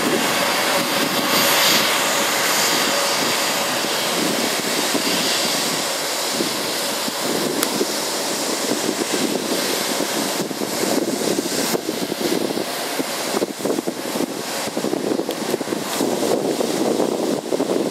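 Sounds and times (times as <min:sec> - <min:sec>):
jet engines rushing hiss: 0:00.0 - 0:17.9.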